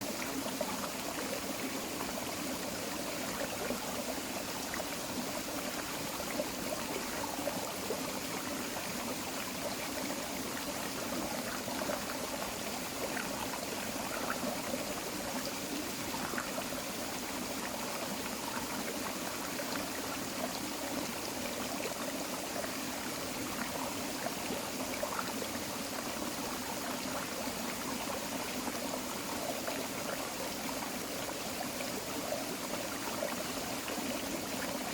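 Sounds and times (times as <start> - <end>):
creek flowing: 0.0 - 34.9.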